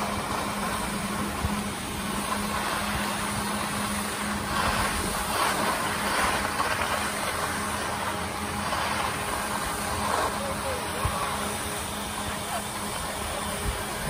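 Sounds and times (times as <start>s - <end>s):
low steady hum: 0.0s - 14.0s
snowmaking guns hissing spray: 0.0s - 14.0s.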